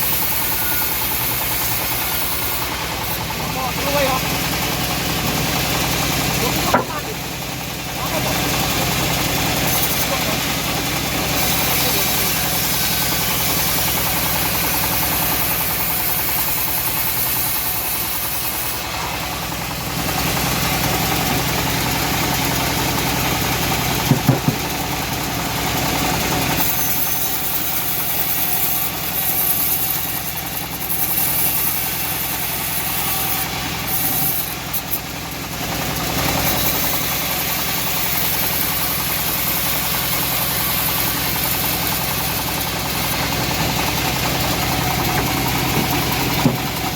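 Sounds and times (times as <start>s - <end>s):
band blade sawing wood: 0.0s - 25.1s, 25.7s - 46.9s
bandsaw mill engine running: 0.0s - 46.9s.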